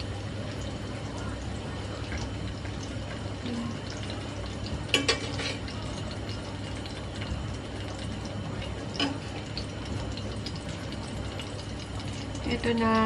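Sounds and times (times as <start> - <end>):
meatballs sizzling in oil: 2.4 - 13.0.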